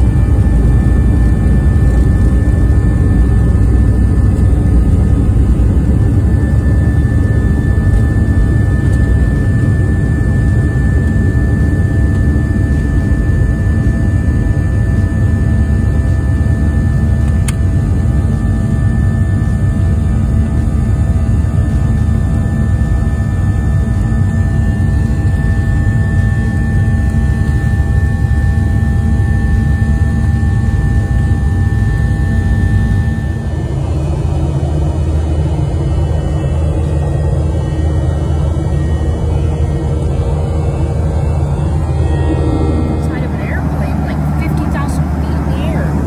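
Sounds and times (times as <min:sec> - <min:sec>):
airliner cabin rumble: 0:00.0 - 0:46.0
jet engine whine: 0:00.0 - 0:46.0.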